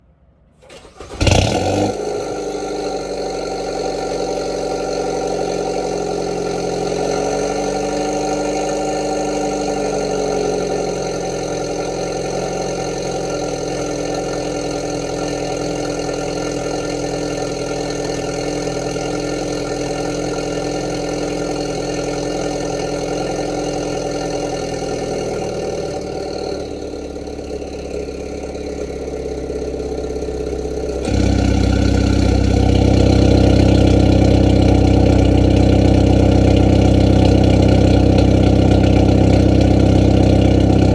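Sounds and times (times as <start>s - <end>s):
car engine cranking: 0.6s - 40.9s
car engine fast idle: 0.6s - 40.9s
engine revving flare: 0.6s - 40.9s.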